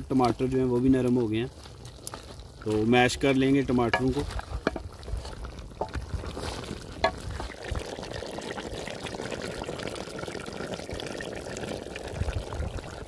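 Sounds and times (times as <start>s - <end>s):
bubbling sizzle in metal pot: 0.0s - 13.0s.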